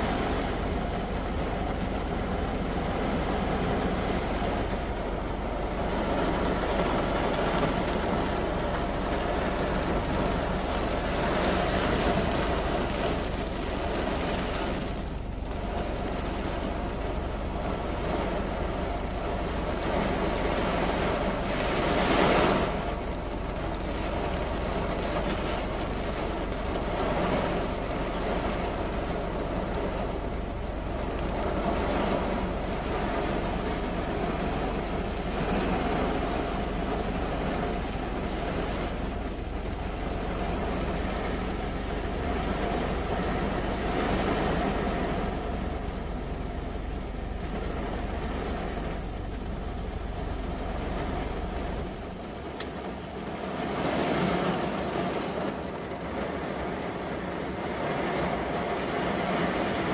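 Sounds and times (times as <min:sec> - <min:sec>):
heavy rain on car roof: 0:00.0 - 0:59.9.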